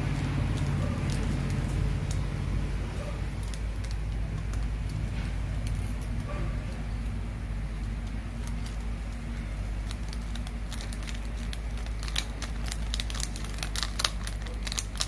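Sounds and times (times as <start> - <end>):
foil sachet tearing and crinkling: 0.0 - 15.0
steady low hum: 0.0 - 15.0.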